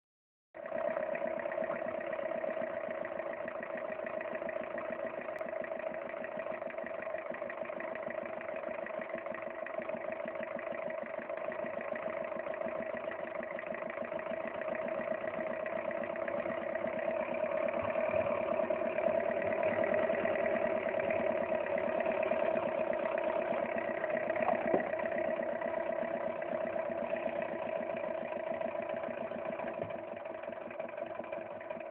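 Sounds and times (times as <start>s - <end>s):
single-cylinder engine running: 0.6s - 31.9s.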